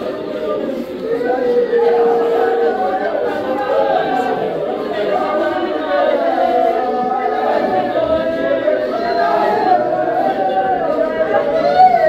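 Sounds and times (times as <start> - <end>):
group singing unaccompanied: 0.0 - 12.0.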